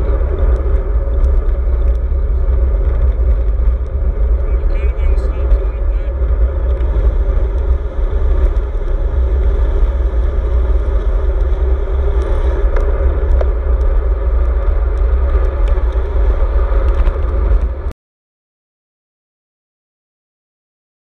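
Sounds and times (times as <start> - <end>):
wind buffeting a microphone: 0.0 - 17.9.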